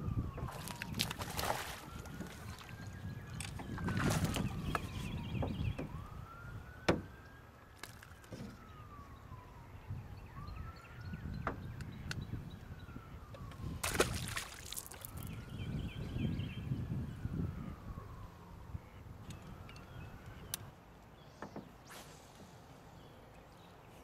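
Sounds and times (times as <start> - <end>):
wailing siren: 0.0 - 20.8.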